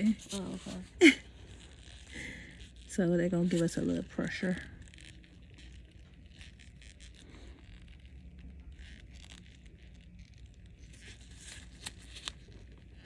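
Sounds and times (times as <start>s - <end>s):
gloves rustling: 0.0s - 13.0s.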